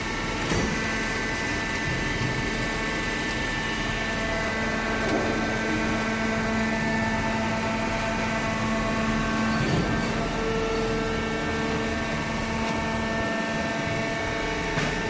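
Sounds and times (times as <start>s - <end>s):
baler motor and pump humming: 0.0s - 15.0s.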